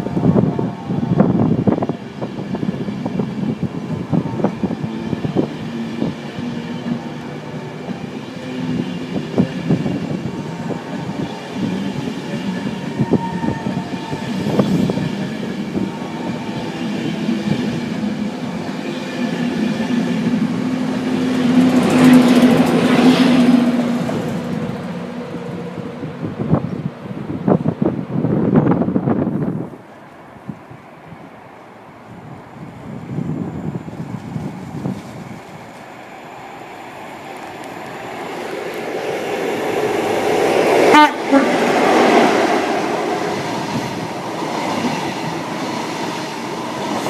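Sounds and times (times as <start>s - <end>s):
electric locomotive hum: 0.0s - 47.0s.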